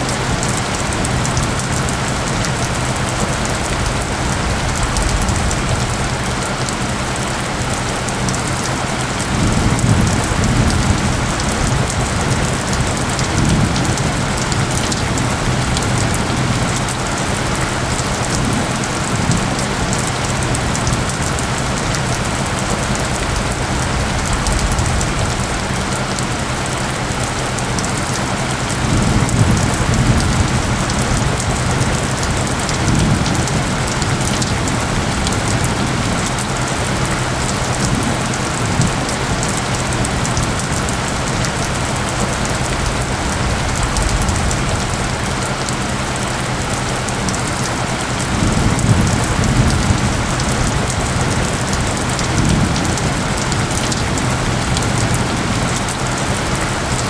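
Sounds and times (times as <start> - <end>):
heavy rain falling: 0.0 - 57.0
low rumbles of thunder: 0.0 - 57.0.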